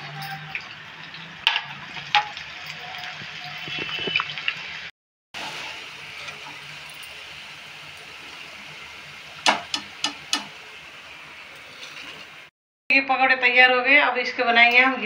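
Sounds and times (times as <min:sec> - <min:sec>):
oil sizzling and crackling: 0:00.0 - 0:12.5.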